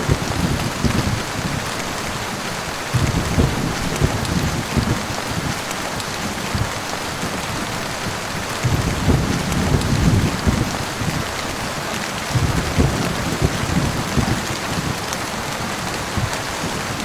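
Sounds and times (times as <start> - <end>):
heavy rain: 0.0 - 17.0
thunder rumbling: 0.0 - 17.0.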